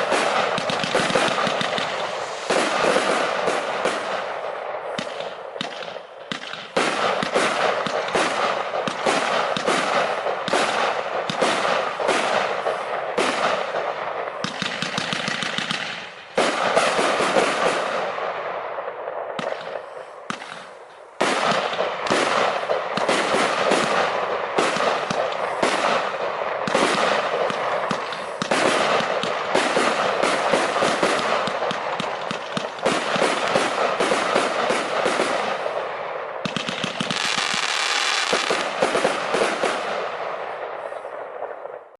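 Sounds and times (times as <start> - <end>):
fireworks launching and bursting: 0.0 - 41.9.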